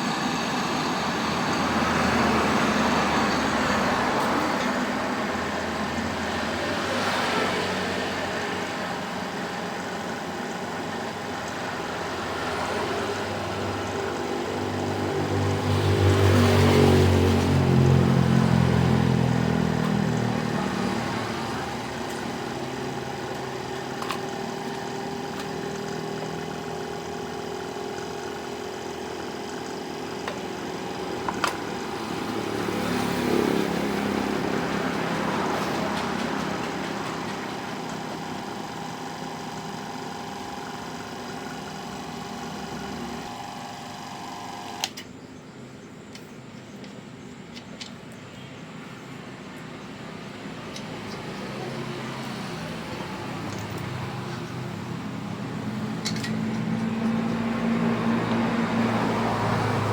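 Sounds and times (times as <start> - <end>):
loud engine-like sound: 0.0 - 45.0, 48.9 - 59.9.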